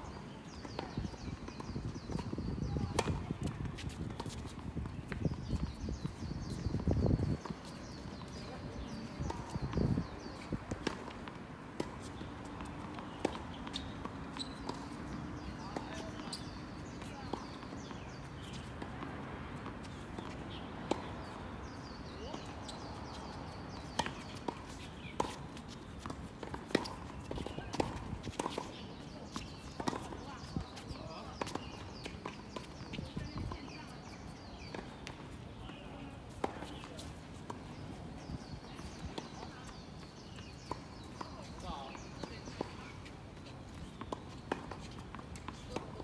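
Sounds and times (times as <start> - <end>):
shoes squeaking on court floor: 0.1 - 46.0.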